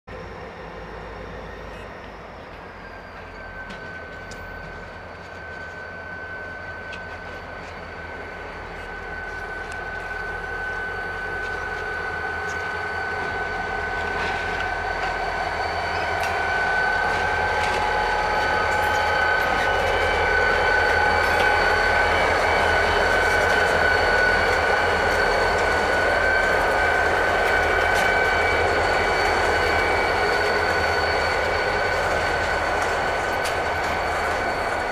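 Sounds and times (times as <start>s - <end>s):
high-pitched whine: 0.1s - 34.9s
locomotive engine rumble: 0.1s - 34.9s.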